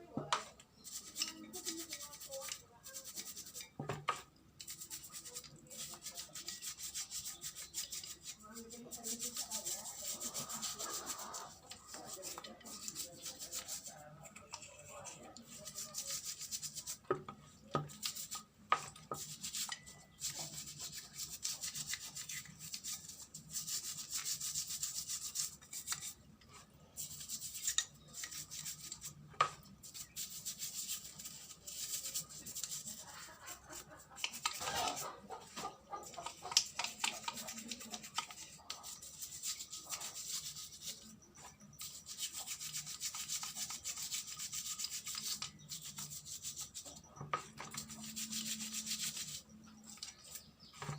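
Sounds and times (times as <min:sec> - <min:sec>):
scrubbing a small hard part: 0:00.0 - 0:50.9.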